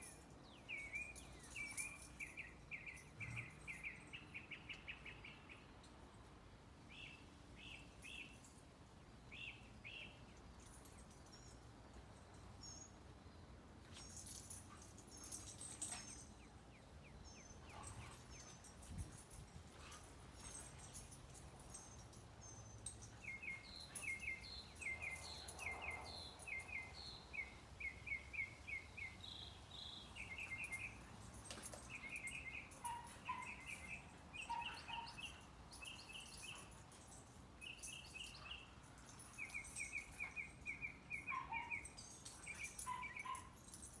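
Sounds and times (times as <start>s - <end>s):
small birds chirping: 0.0s - 5.9s, 13.8s - 43.9s
faint steady background noise: 0.0s - 44.0s.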